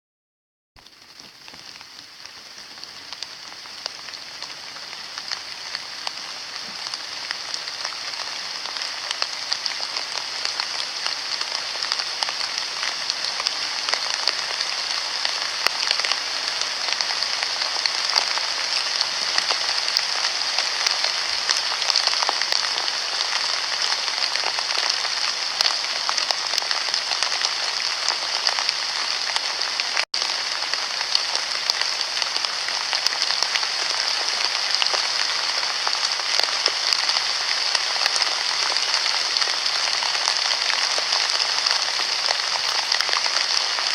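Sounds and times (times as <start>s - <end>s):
rain falling: 0.8s - 43.9s.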